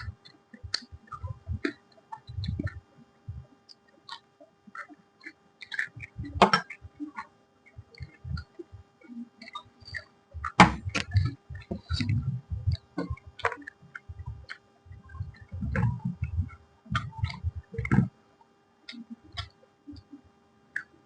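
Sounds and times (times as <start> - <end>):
person chewing food: 0.0 - 18.1, 18.9 - 20.1
faint steady hum: 0.0 - 21.0.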